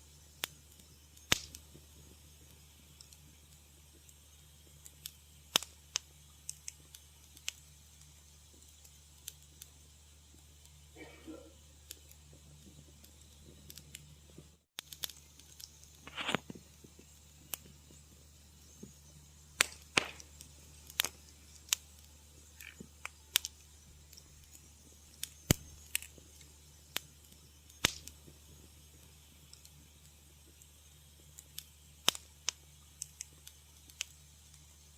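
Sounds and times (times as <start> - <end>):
faint low hum: 0.0 - 34.9
wood fire crackling: 0.0 - 34.9.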